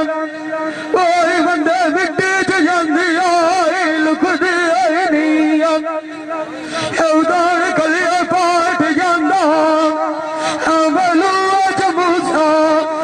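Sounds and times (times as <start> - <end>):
man singing into microphone: 0.0 - 13.0.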